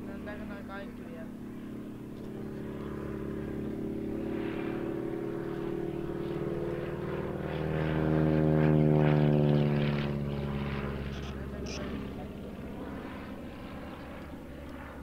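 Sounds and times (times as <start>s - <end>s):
propeller plane engine droning overhead: 0.0s - 15.0s.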